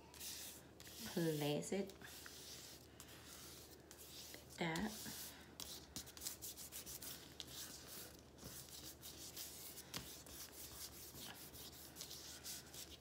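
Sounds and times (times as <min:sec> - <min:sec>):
hands rubbing paper: 0:00.1 - 0:13.0.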